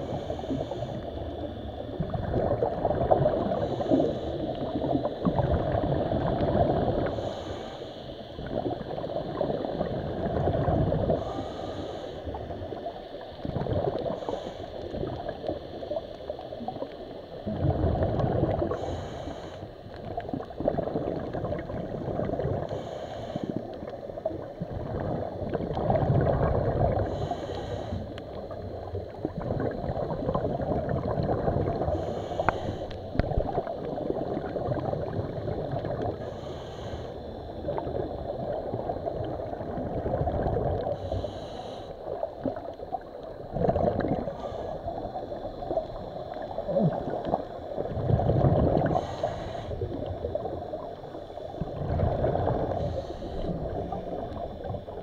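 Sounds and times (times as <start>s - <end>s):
water gurgling and bubbling: 0.0s - 7.7s, 8.3s - 55.0s.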